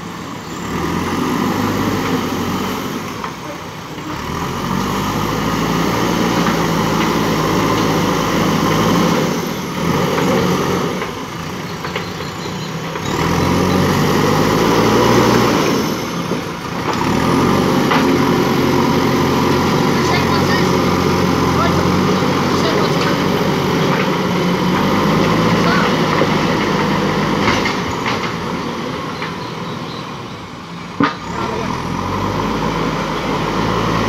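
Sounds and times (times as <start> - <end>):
backhoe diesel engine under load: 0.0 - 34.0.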